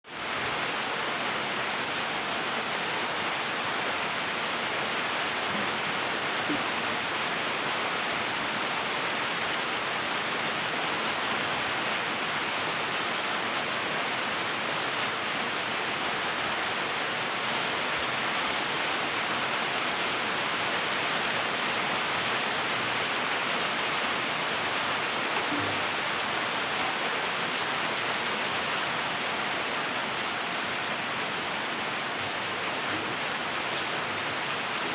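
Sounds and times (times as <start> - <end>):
light rain falling: 0.0 - 34.9.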